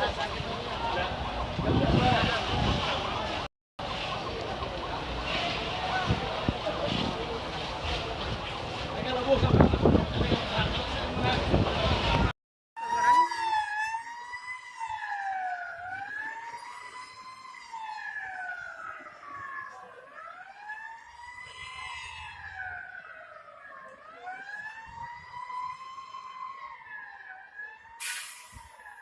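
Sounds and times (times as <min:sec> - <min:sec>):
emergency vehicle siren wailing: 0:00.0 - 0:29.0.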